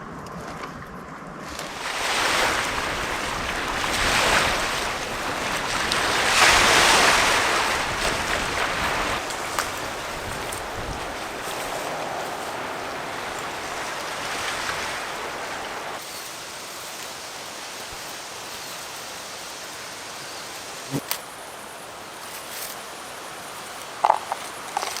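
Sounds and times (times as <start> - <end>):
rushing water: 1.4 - 22.2.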